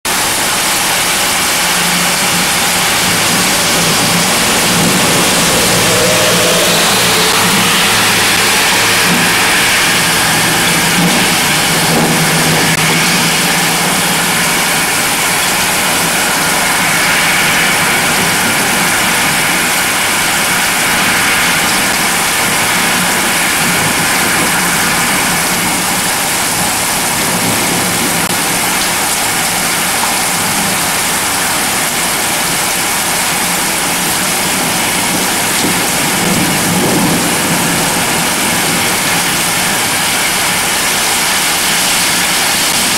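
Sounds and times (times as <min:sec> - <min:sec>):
heavy rain pouring: 0:00.1 - 0:42.9.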